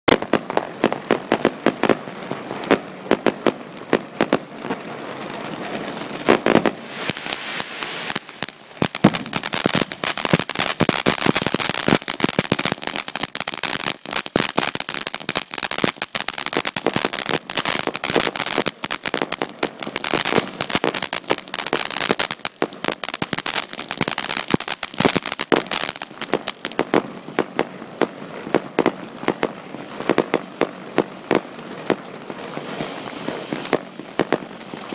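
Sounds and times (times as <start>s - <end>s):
firework fountain crackling: 0.0s - 34.9s.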